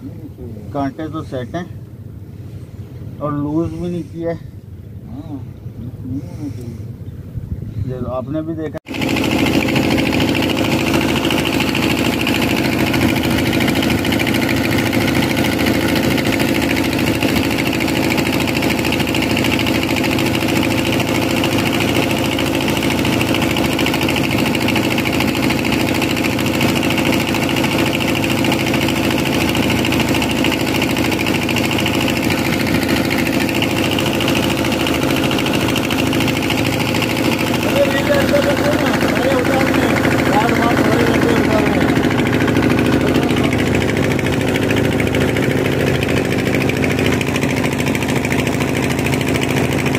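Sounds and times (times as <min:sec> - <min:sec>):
boat engine humming: 0:00.0 - 0:49.9.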